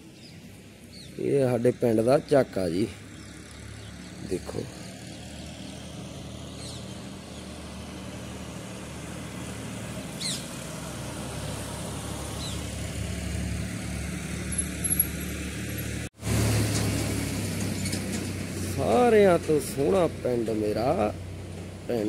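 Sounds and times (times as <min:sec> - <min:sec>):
low engine hum: 0:02.2 - 0:22.0.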